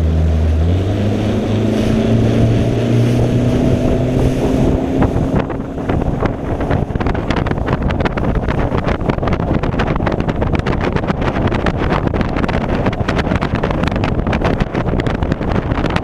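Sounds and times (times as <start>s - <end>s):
outboard motor throttling up: 0.0s - 16.0s
wind buffeting microphone: 0.2s - 16.0s.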